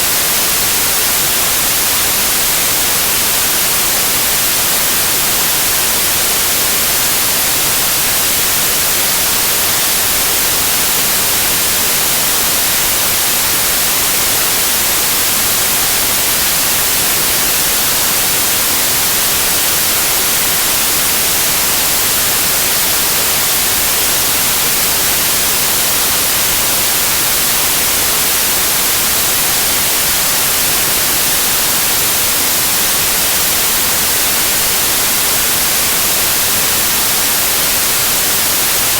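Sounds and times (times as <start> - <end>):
tv static white noise: 0.0 - 38.9.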